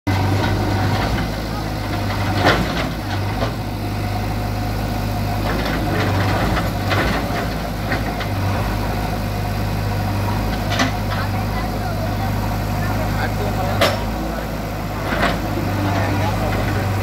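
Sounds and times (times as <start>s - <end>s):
diesel engine running: 0.1s - 17.0s.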